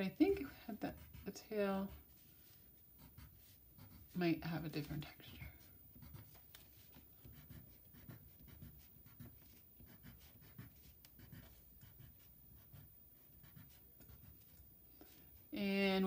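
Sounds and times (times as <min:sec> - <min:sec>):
colored pencil scratching on paper: 0:00.0 - 0:16.0.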